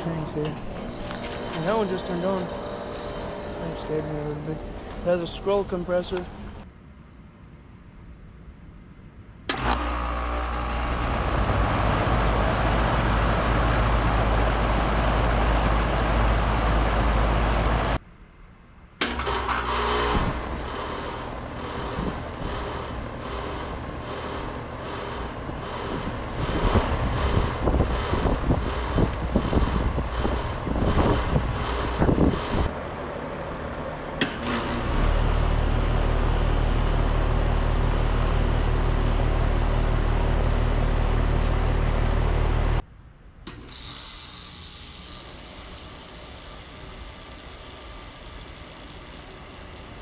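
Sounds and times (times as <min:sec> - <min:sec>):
air conditioner condenser running: 0:00.0 - 0:06.6, 0:09.5 - 0:18.0, 0:19.1 - 0:42.8, 0:44.0 - 0:50.0
condenser fan rushing: 0:00.0 - 0:06.6, 0:09.5 - 0:18.0, 0:19.0 - 0:42.8, 0:43.6 - 0:50.0.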